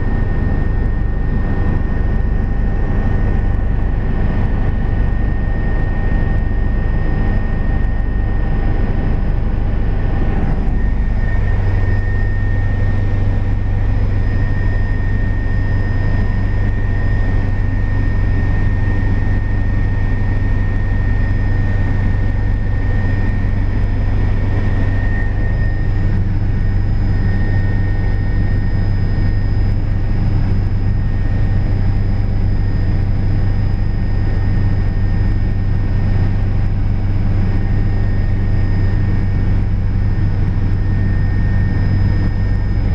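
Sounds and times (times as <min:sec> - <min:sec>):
helicopter engine drone: 0:00.0 - 0:42.9
high turbine whine: 0:00.0 - 0:42.9.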